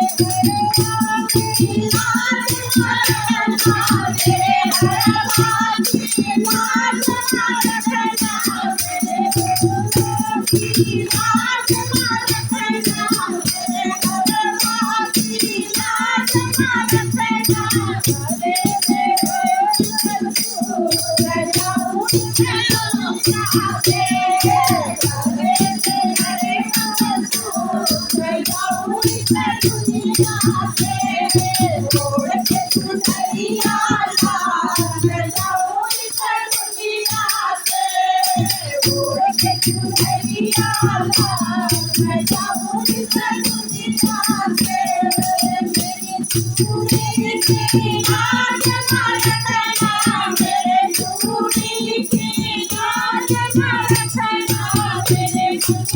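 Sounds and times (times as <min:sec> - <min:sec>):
person singing devotional song: 0:00.0 - 0:55.9
rattling percussion: 0:00.0 - 0:55.9.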